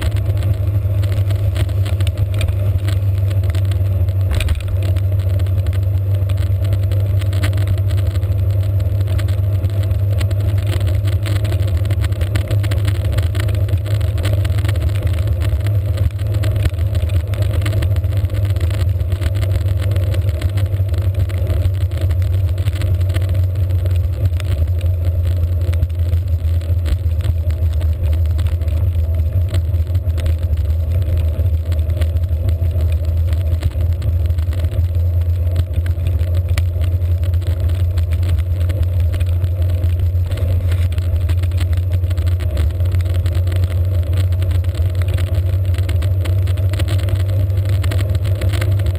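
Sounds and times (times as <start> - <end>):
road noise on wet road: 0.0 - 48.9
wind rumble: 0.0 - 48.9.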